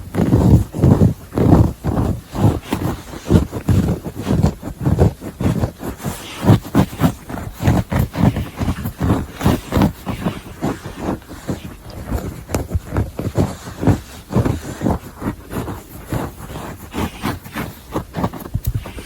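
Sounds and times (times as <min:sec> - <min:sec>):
fingernails scratching fabric: 0:00.0 - 0:19.0.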